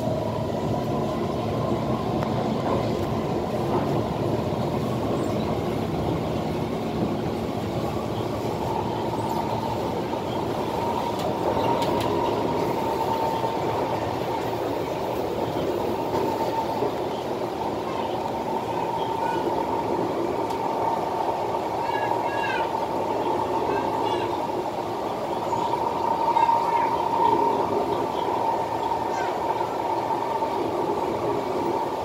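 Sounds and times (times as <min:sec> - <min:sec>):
train wheels rumbling: 0:00.0 - 0:32.0.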